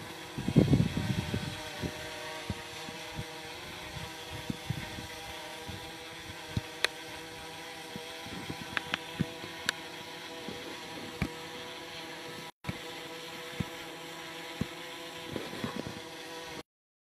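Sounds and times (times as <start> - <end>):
drone propellers buzzing: 0.0 - 16.6.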